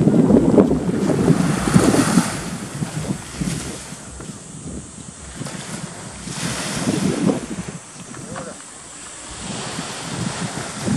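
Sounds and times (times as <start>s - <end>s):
small waves washing onto sand: 0.0s - 10.9s
wind rumbling on microphone: 0.0s - 10.9s.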